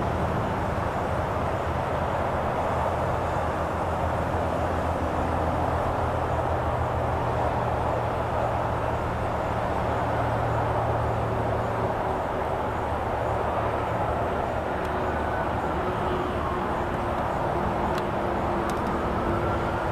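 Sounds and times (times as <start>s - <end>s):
steady background drone: 0.0s - 19.9s.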